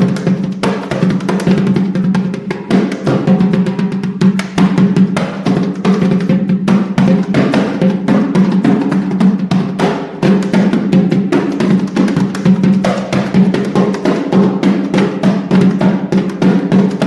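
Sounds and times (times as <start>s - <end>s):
drum played fast: 0.0s - 17.0s.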